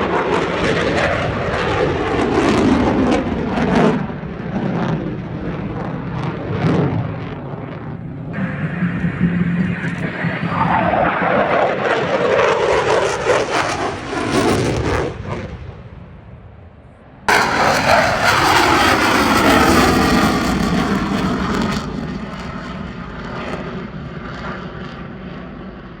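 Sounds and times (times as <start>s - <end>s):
jet aircraft flying past: 0.0s - 26.0s.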